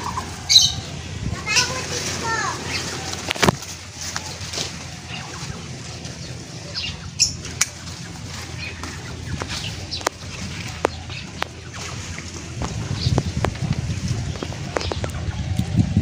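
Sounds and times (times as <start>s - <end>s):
leaves and vines rustling: 0.0s - 16.0s.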